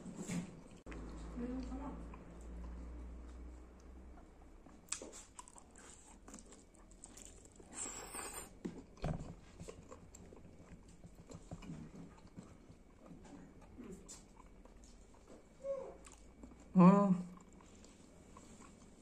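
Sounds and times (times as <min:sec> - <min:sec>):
wet chewing and lip smacks: 0:02.0 - 0:16.7, 0:17.3 - 0:19.0.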